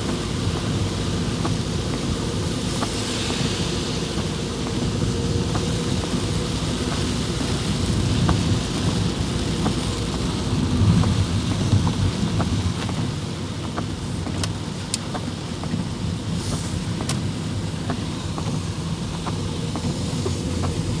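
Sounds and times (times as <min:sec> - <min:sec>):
heavy rain hissing: 0:00.0 - 0:21.0
raindrops ticking on surfaces: 0:00.0 - 0:21.0.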